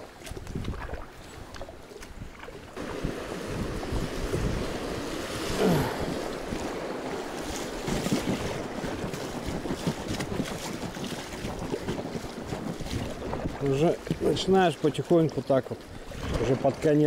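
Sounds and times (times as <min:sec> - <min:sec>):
paddle strokes splashing: 0:00.0 - 0:17.0
water rushing: 0:00.0 - 0:17.0
wind buffeting microphone: 0:00.0 - 0:17.0.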